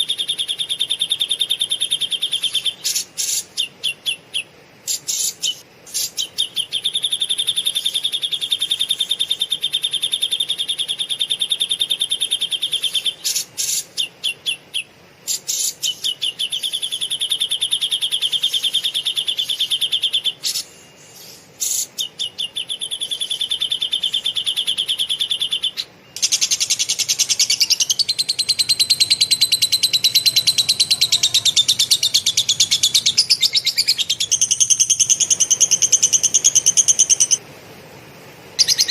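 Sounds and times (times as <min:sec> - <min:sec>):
bird chattering: 0:00.0 - 0:37.4, 0:38.6 - 0:38.9.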